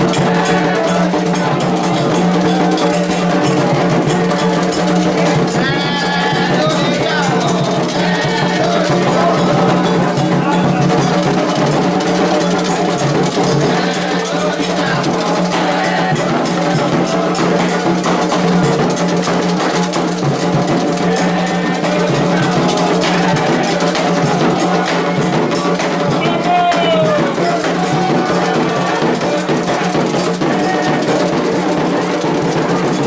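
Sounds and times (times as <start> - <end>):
hand drums: 0.0 - 33.0
voices singing: 0.0 - 33.0.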